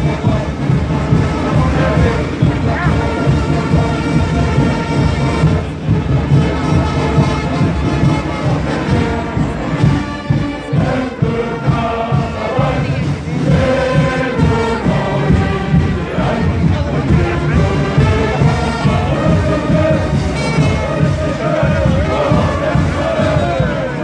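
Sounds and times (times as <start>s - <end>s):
carnival band music: 0.0s - 24.0s
crowd singing and shouting: 0.0s - 24.0s
steady drum beat: 0.0s - 24.0s.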